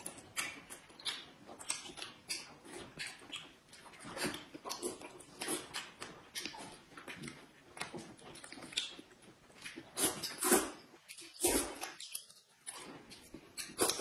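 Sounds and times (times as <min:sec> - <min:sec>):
wet chewing and slurping: 0:00.0 - 0:14.0.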